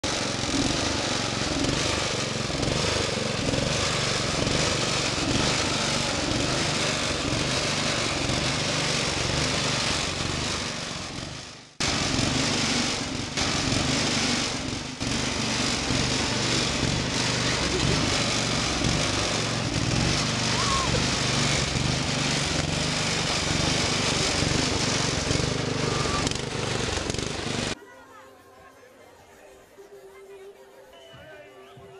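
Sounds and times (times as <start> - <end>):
small tractor engine running: 0.0 - 27.8.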